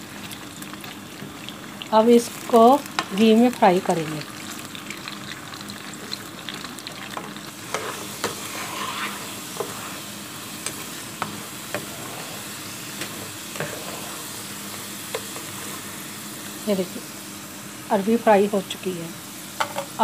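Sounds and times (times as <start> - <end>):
vegetable slices sizzling in a pan: 0.0 - 20.0.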